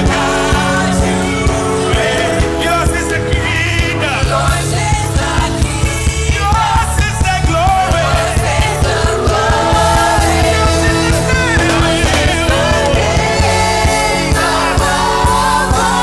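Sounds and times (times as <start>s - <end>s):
gospel song with singing: 0.0s - 16.0s
steady drum beat: 0.0s - 16.0s.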